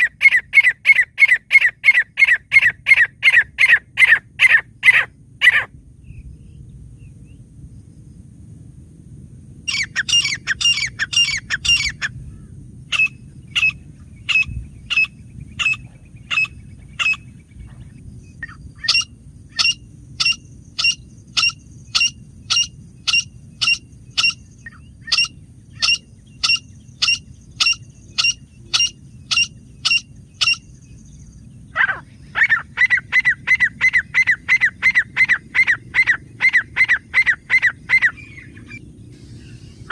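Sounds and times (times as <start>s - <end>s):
francolin calling: 0.0s - 5.7s, 9.7s - 17.4s, 18.2s - 39.9s
faint low rumble: 3.8s - 39.9s.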